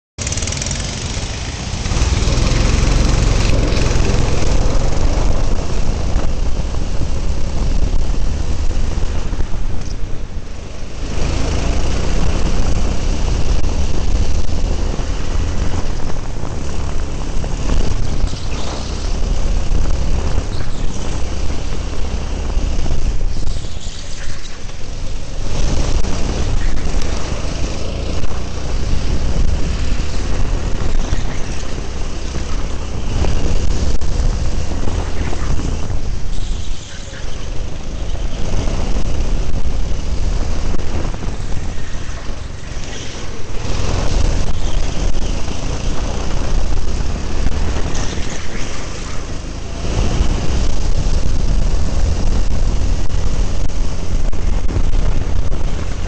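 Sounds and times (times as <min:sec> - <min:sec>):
go-kart engine running hard: 0:00.2 - 0:56.0.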